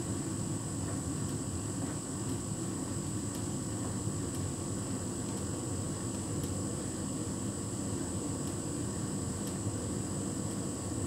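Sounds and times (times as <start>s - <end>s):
tumble dryer hum and rumble: 0.0s - 11.0s.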